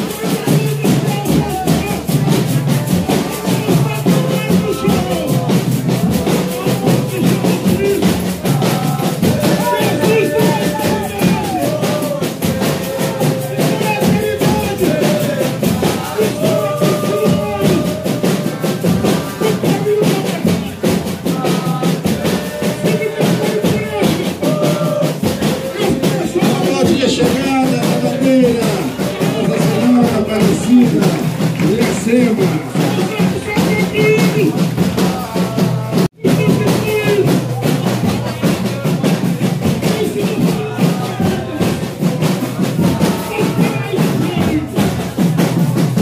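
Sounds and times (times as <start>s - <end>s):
accordion chords: 0.0s - 38.4s
people singing: 0.0s - 46.0s
steady drum beat: 0.0s - 46.0s.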